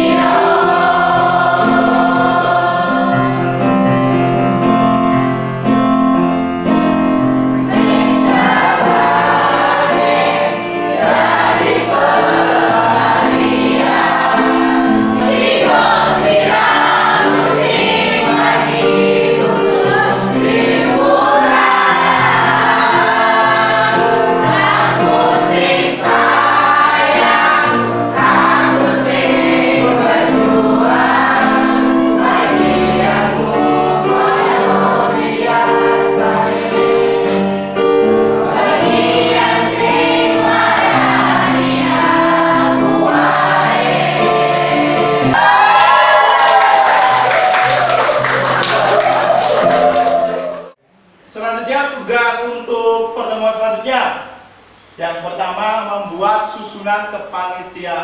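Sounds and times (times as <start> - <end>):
group of voices singing: 0.0 - 4.0, 7.6 - 50.8
electronic keyboard accompaniment: 0.0 - 50.8.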